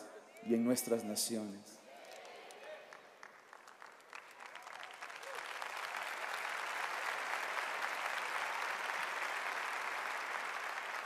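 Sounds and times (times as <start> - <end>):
audience applause: 2.0 - 11.0.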